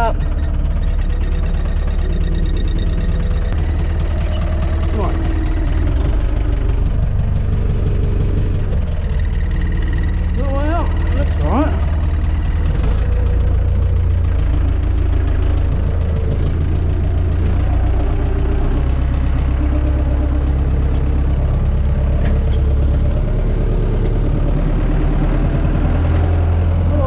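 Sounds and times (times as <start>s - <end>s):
tractor engine humming: 0.0s - 27.0s.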